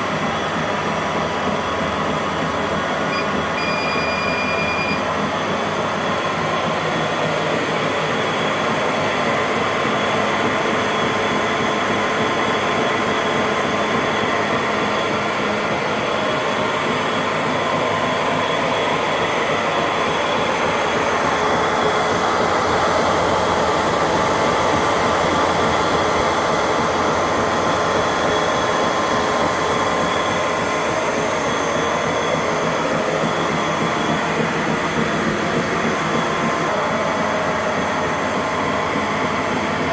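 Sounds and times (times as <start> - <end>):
treadmill belt rumbling: 0.0 - 39.9
treadmill motor whining: 0.0 - 39.9.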